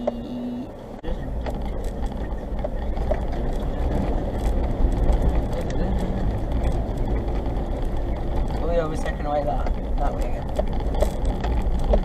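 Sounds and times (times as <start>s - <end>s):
vehicle engine and tyres rumbling: 0.0s - 12.0s
knocks and clatter: 1.0s - 12.0s.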